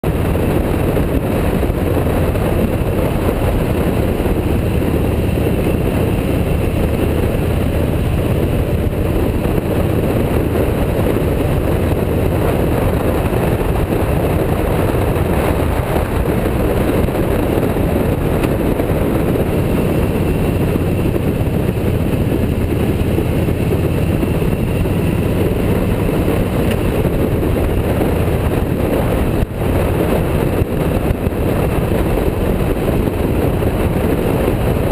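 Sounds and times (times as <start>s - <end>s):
motorcycle engine: 0.0s - 34.9s
wind rush: 0.0s - 34.9s.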